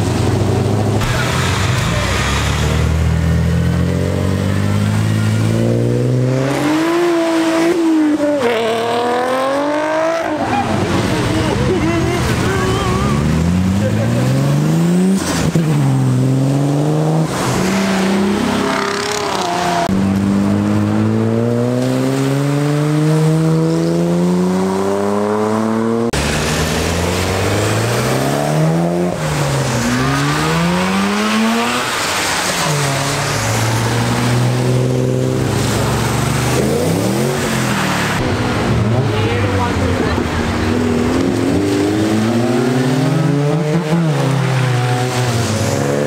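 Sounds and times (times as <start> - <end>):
car engines revving and accelerating: 0.0 - 46.0.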